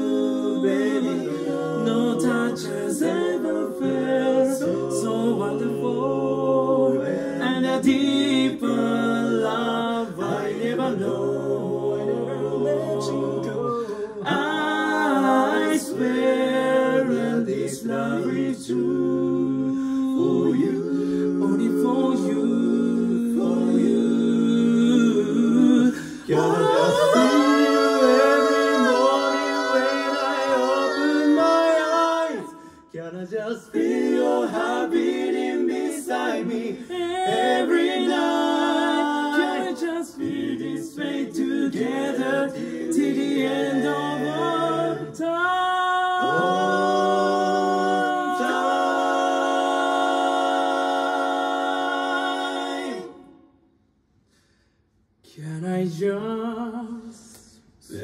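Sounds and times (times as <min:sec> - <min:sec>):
male quartet singing a cappella: 0:00.0 - 0:53.4, 0:55.2 - 0:58.0.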